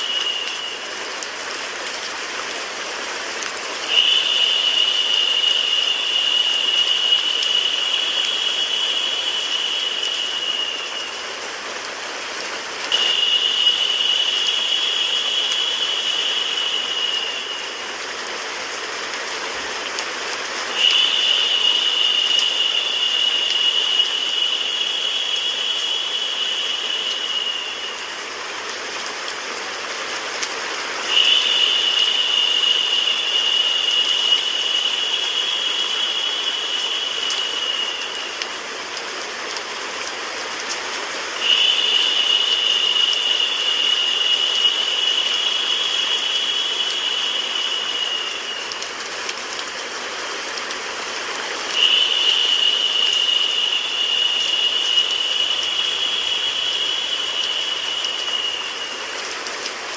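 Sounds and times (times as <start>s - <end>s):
bright high hiss: 0.0s - 1.7s, 3.8s - 18.7s, 20.6s - 29.7s, 30.9s - 38.8s, 41.3s - 49.4s, 51.4s - 59.8s
rain-like hiss with white noise: 0.0s - 59.9s.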